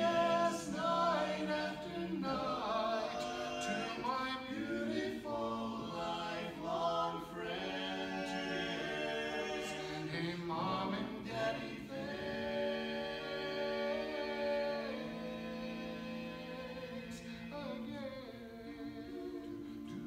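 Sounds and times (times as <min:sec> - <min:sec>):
male quartet singing a cappella: 0:00.0 - 0:20.0.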